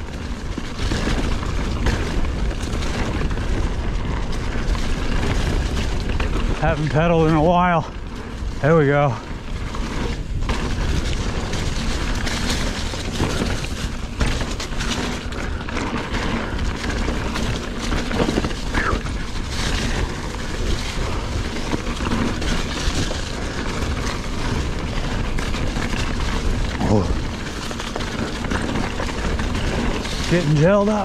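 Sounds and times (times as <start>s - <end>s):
bike tyres and frame rattling: 0.0s - 31.0s
wheels knocking on roots: 0.0s - 31.0s.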